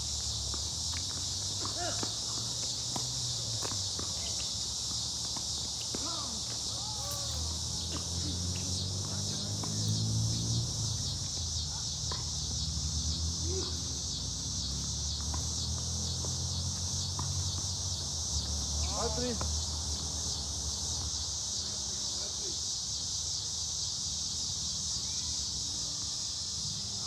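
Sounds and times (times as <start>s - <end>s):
insect chorus buzzing: 0.0s - 27.0s.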